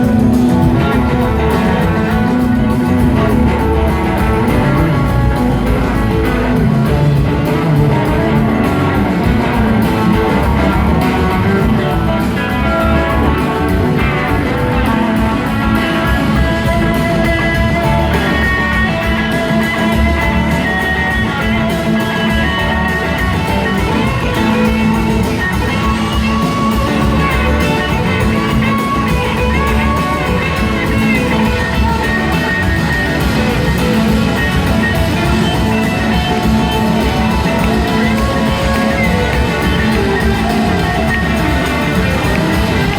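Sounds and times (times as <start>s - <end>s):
electric guitar: 0.0s - 42.9s
rock band playing: 0.0s - 42.9s.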